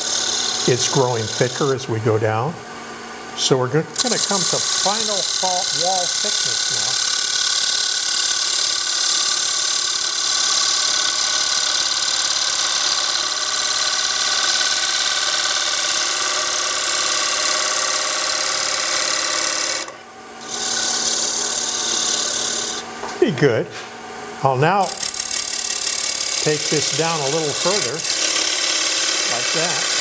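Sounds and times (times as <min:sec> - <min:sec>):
gouge cutting wood on a lathe: 0:00.0 - 0:01.8, 0:04.0 - 0:22.8, 0:24.8 - 0:30.0.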